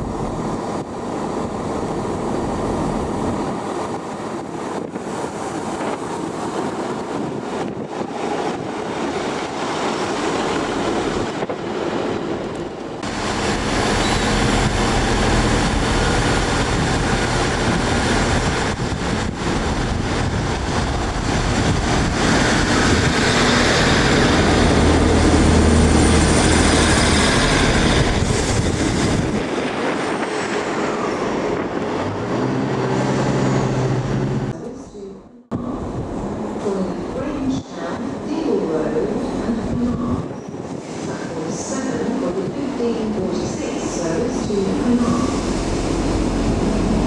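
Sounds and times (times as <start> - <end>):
diesel train engines running: 0.0 - 34.6, 35.6 - 47.0
rumbling wheel and rail noise: 0.0 - 47.0.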